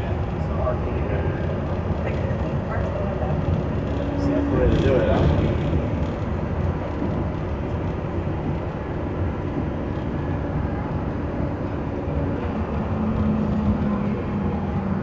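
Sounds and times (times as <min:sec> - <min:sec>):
monorail rumbling: 0:00.0 - 0:15.0.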